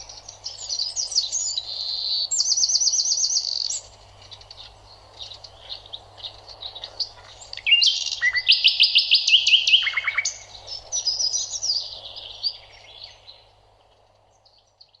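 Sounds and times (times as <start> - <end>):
small birds chirping and trilling: 0.0 - 15.0.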